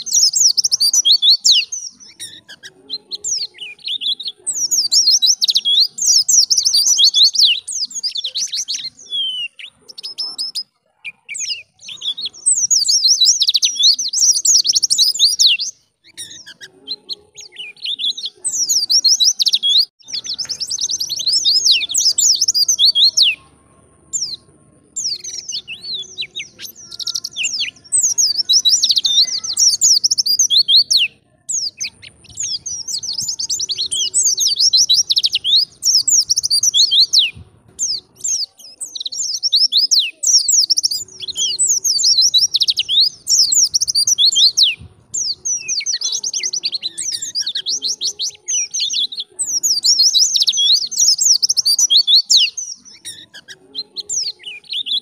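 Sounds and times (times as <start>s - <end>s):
bird high twittering song: 0.0s - 55.0s.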